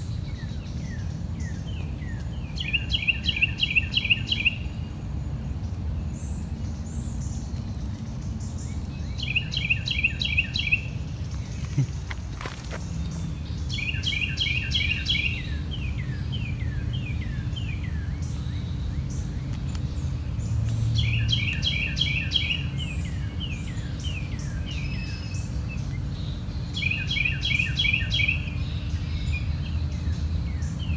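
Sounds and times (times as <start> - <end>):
songbird singing: 0.0 - 30.9.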